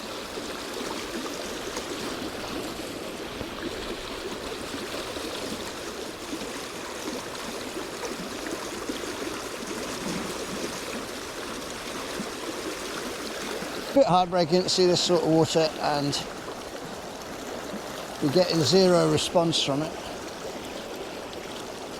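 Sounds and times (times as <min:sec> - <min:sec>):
stream water rushing: 0:00.0 - 0:21.9.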